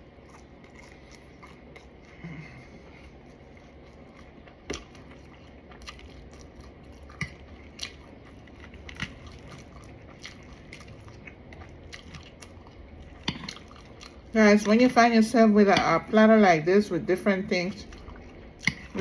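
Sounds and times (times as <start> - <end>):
person chewing crunchy food: 0.0 - 14.4, 17.8 - 19.0.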